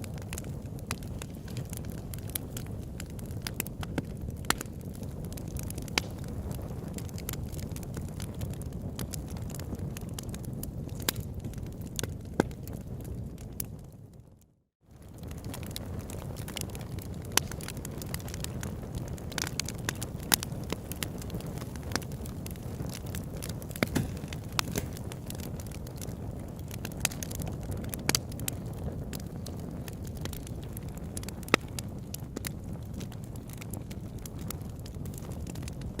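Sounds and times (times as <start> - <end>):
campfire crackling: 0.0 - 14.2, 14.9 - 36.0.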